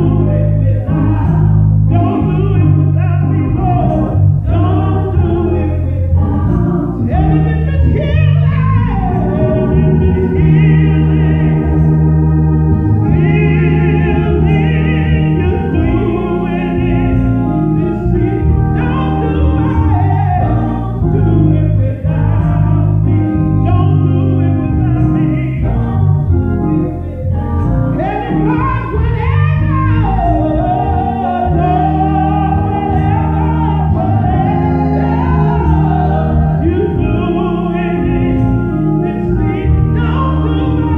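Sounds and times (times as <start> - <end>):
keyboard and bass chords: 0.0 - 40.9
person singing gospel: 0.0 - 40.9.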